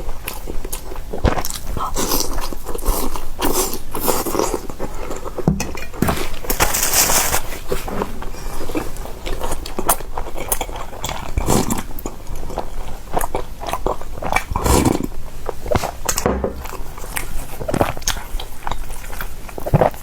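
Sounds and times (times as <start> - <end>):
person chewing food closely: 0.0 - 20.0.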